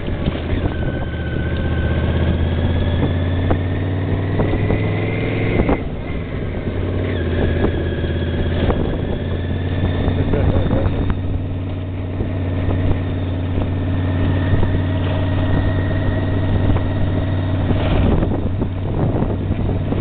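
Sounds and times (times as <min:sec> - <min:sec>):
motorcycle engine running: 0:00.0 - 0:20.0
wind on microphone: 0:00.0 - 0:20.0.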